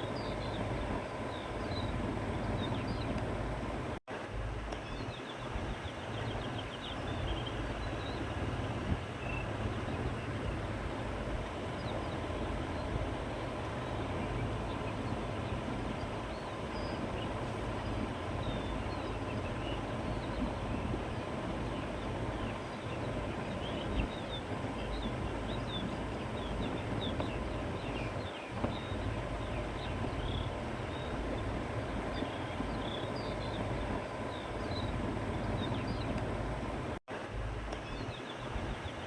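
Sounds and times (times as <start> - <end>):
wind blowing: 0.0 - 39.0.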